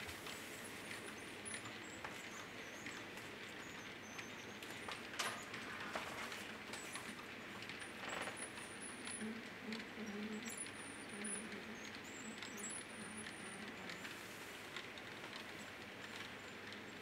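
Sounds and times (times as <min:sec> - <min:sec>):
model train wagons rolling: 0:00.0 - 0:17.0
wheels clicking over rail joints: 0:00.0 - 0:17.0.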